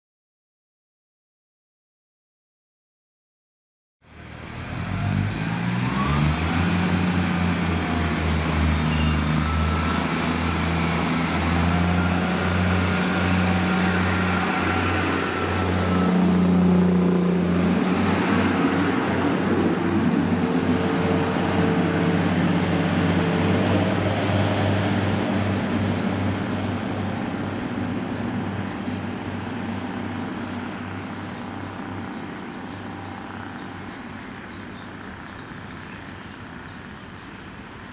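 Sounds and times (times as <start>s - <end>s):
diesel train engine pulsing hum: 4.1s - 37.9s.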